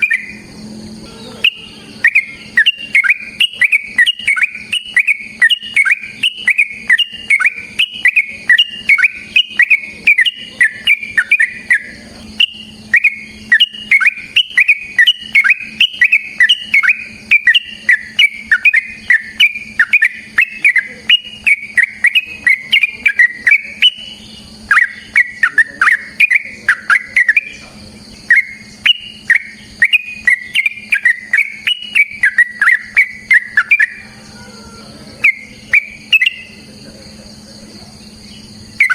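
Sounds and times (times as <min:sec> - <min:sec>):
bird singing whistled notes: 0:00.0 - 0:38.9.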